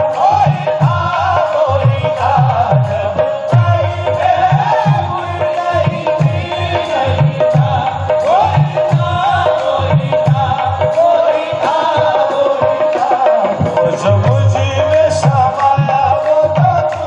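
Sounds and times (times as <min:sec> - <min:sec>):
hand drum beat: 0:00.0 - 0:17.0
harmonium melody over a drone: 0:00.0 - 0:17.0.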